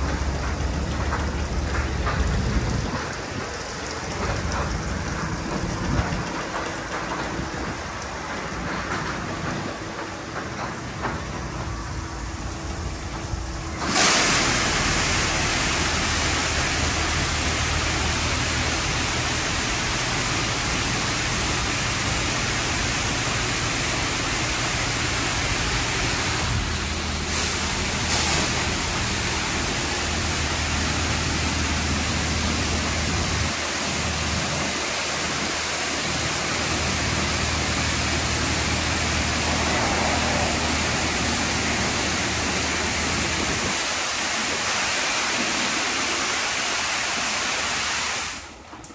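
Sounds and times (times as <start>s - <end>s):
high-pressure water spray hiss: 0.0s - 48.7s.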